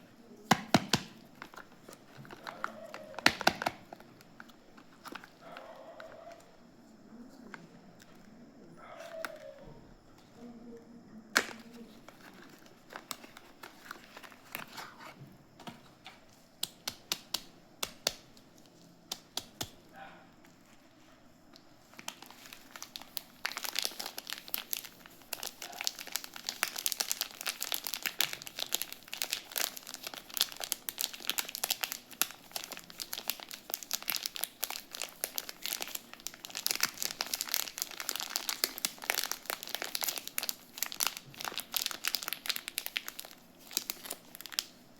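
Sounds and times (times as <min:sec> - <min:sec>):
soap wrapper crinkling: 0:00.0 - 0:08.3, 0:11.4 - 0:19.8, 0:20.5 - 0:44.9.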